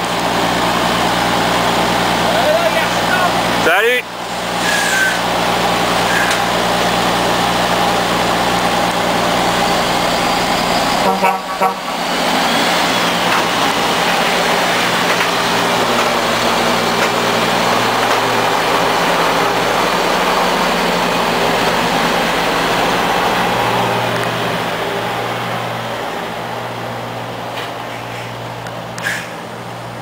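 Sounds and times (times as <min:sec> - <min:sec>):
truck engine hum: 0:00.0 - 0:30.0.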